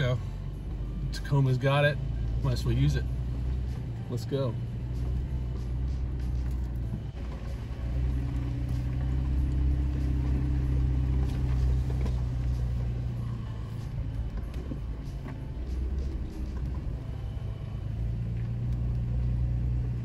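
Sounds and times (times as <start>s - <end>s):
truck engine low hum: 0.0s - 20.0s.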